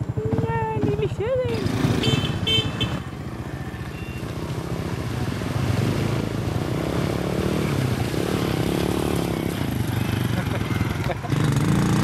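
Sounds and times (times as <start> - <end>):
water splashing from wheels: 1.6 - 12.0.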